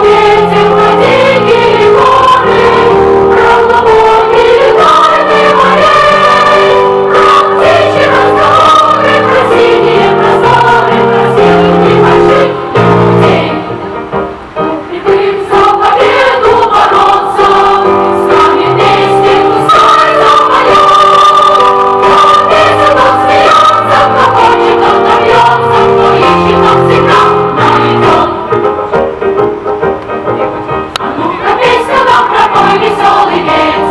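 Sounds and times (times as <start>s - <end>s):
choir singing: 0.0s - 28.7s, 31.0s - 33.9s
instrumental accompaniment: 0.0s - 33.9s.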